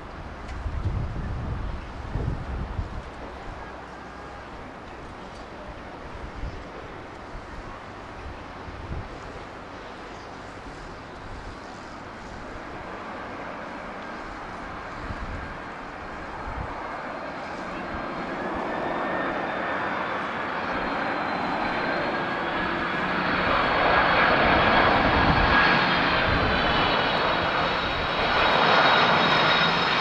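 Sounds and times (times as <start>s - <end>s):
wind buffeting microphone: 0.0s - 3.7s, 5.0s - 9.7s, 10.3s - 20.1s, 20.7s - 30.0s
jet airliner roar: 0.0s - 30.0s
jet engine whine: 0.0s - 30.0s.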